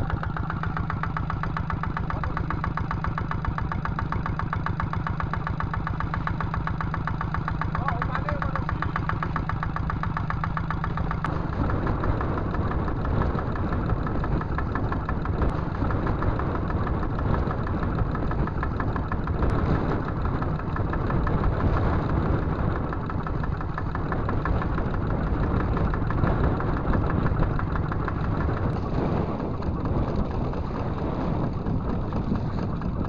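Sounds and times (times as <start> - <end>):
diesel boat engine chugging: 0.0 - 33.0.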